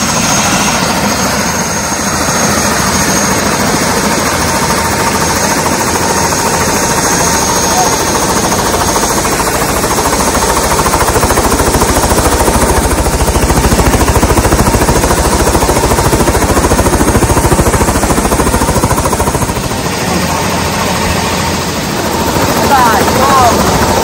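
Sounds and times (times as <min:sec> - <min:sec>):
helicopter rotor chopping: 0:00.0 - 0:24.0.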